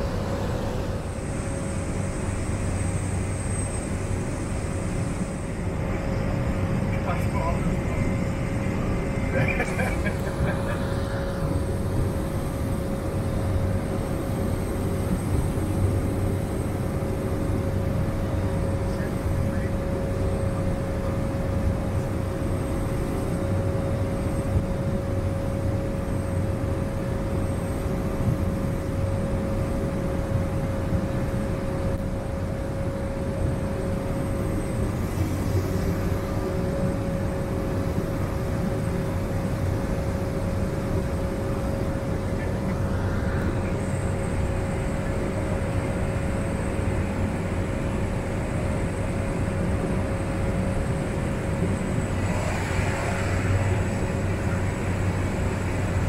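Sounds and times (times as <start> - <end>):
steady hum: 0.0 - 56.0
turboprop engine drone in cabin: 0.0 - 56.0.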